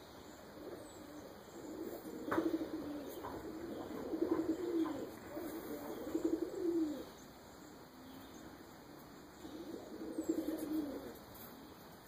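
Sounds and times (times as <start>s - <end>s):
pigeons cooing: 0.0s - 7.3s, 7.9s - 11.6s.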